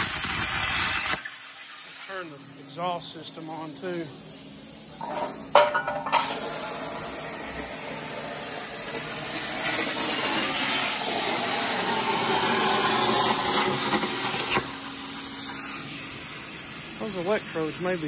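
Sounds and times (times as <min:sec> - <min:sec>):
plasma cutter hissing: 0:00.0 - 0:18.0.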